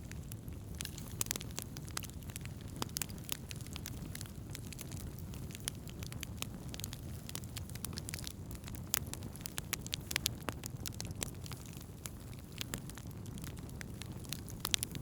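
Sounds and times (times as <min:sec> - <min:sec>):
low rumble of flames: 0:00.0 - 0:15.0
wood fire crackles and pops: 0:00.0 - 0:15.0.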